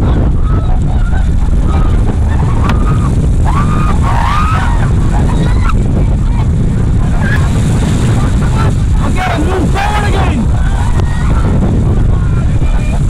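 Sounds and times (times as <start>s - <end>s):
people yelling: 0.0s - 6.5s, 8.3s - 13.0s
white-water rapids rushing: 0.0s - 13.0s
wind buffeting microphone: 0.0s - 13.0s.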